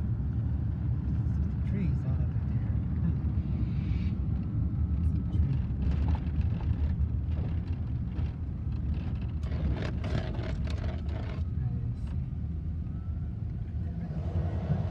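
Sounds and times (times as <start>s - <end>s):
car interior road rumble: 0.0s - 14.9s.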